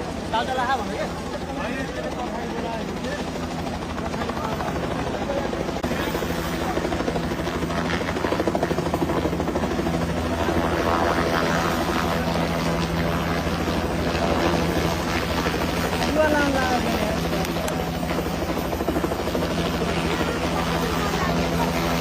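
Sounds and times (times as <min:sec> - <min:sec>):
helicopter rotor and engine: 0:00.0 - 0:22.0.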